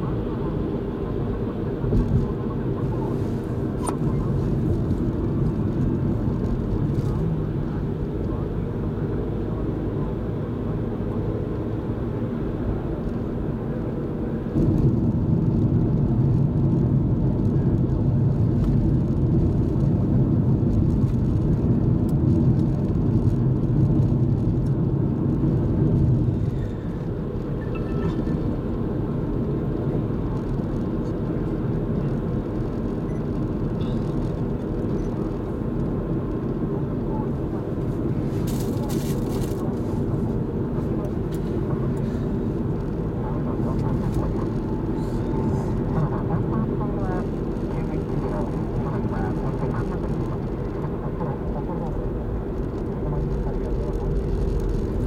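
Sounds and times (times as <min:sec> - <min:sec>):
car cabin road and engine hum: 0:00.0 - 0:55.0.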